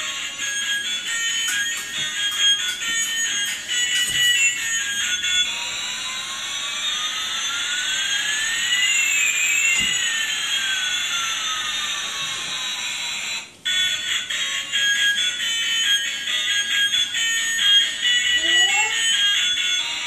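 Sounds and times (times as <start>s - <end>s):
toy electronic tune: 0.0s - 20.0s
toy jet sound effect: 0.0s - 20.0s.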